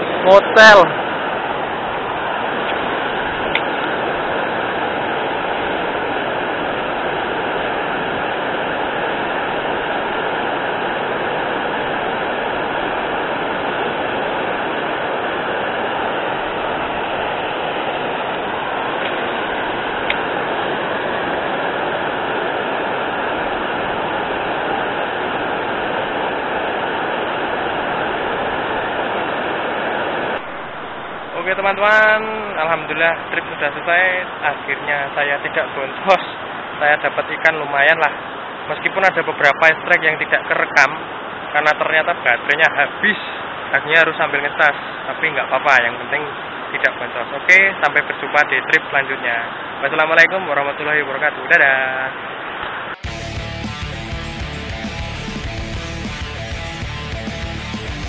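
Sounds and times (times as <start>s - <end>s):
water rushing over weir: 0.0s - 58.0s.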